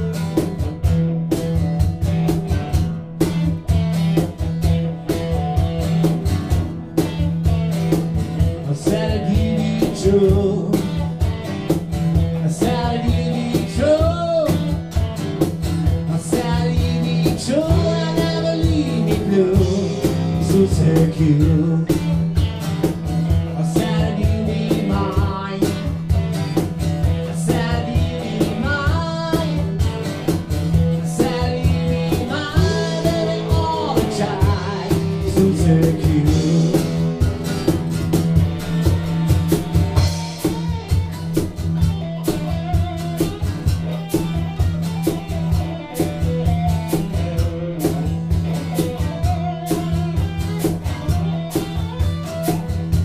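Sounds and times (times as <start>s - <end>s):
drum kit steady beat: 0.0s - 53.0s
electric guitar lead with bends: 0.0s - 53.0s
strummed acoustic guitar: 0.0s - 53.0s.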